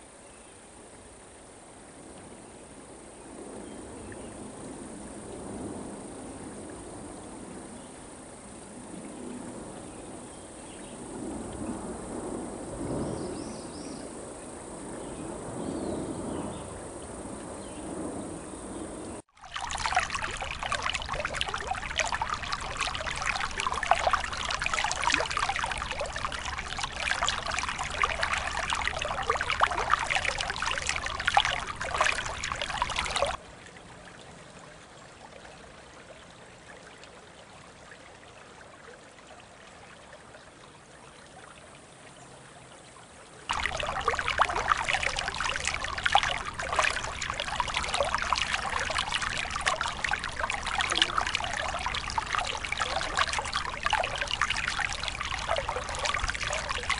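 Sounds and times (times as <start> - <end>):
creek trickling and babbling: 0.0 - 56.9.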